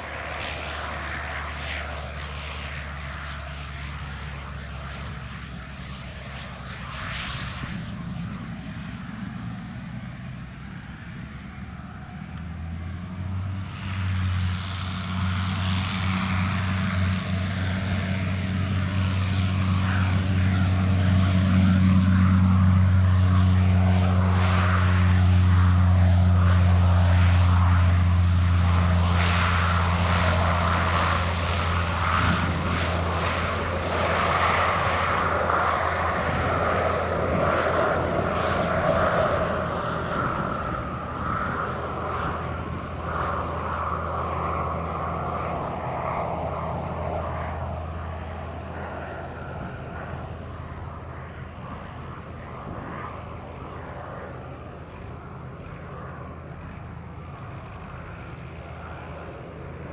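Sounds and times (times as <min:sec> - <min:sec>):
turboprop engine and propeller: 0:00.0 - 0:59.9.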